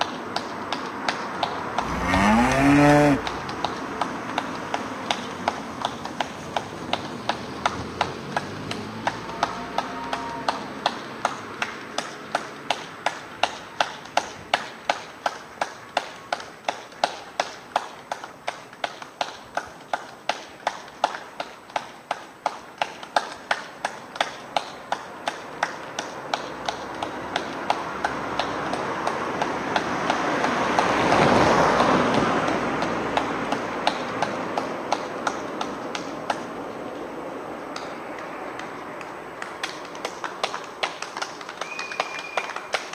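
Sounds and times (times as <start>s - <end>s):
distant clapping: 0.0s - 37.1s, 37.7s - 42.9s
hand clapping close by: 2.5s - 36.5s, 37.7s - 42.9s.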